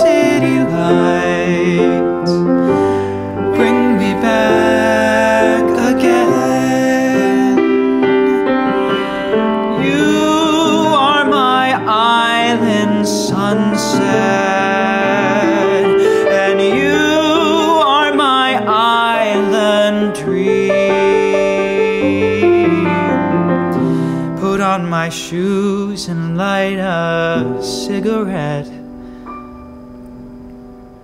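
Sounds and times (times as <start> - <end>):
man singing with vibrato: 0.0 - 29.0
piano accompaniment: 0.0 - 31.0.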